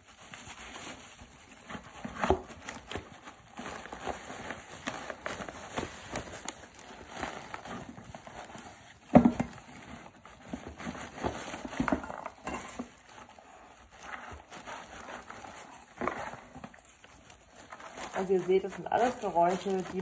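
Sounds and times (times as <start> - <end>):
paper and plastic bags rustling: 0.0 - 20.0.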